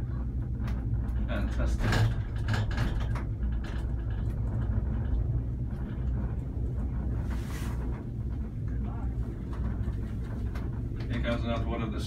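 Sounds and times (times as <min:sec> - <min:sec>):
cable car rumbling: 0:00.0 - 0:12.0.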